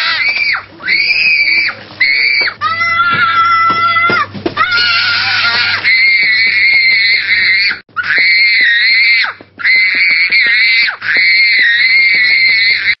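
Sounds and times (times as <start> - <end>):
child screaming: 0.0 - 13.0.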